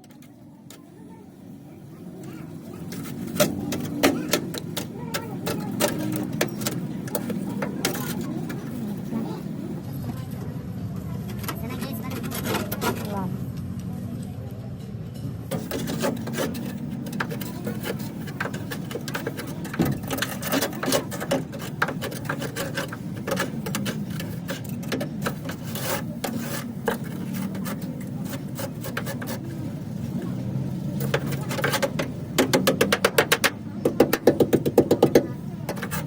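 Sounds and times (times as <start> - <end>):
hand tool scraping metal panel: 2.0 - 9.7, 11.5 - 13.3, 15.5 - 36.0.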